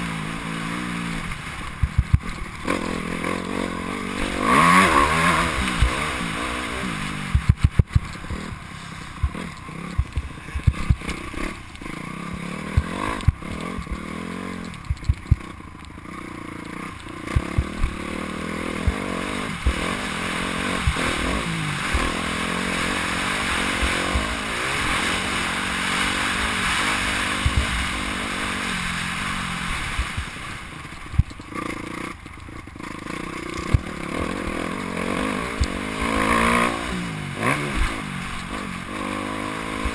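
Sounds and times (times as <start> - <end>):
motocross bike engine revving: 0.0 - 39.9
knocks and clatter over bumps: 1.2 - 6.3, 7.2 - 38.7.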